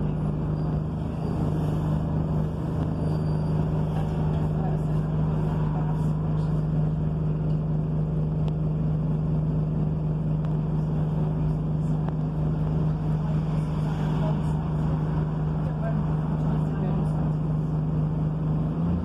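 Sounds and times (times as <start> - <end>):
bus engine humming: 0.0 - 19.0.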